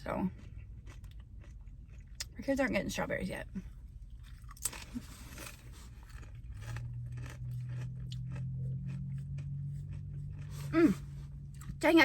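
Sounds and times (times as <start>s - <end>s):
steady low hum: 0.0s - 12.0s
chewing food with crunches: 0.1s - 2.7s, 3.6s - 11.9s.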